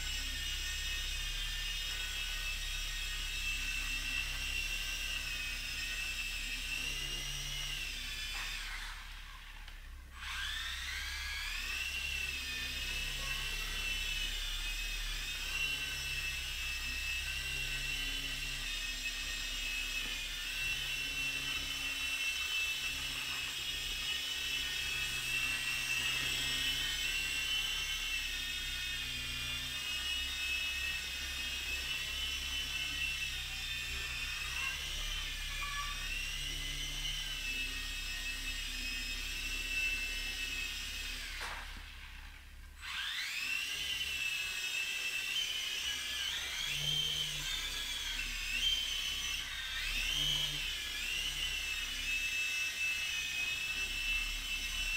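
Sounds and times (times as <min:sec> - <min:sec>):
small helicopter motors whining: 0:00.0 - 0:54.9.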